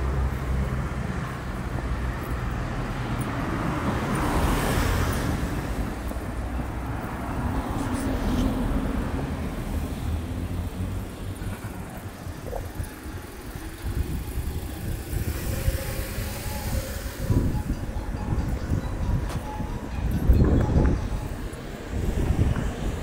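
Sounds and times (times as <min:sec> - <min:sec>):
road noise rumble: 0:00.0 - 0:23.0
vehicles passing: 0:00.0 - 0:23.0.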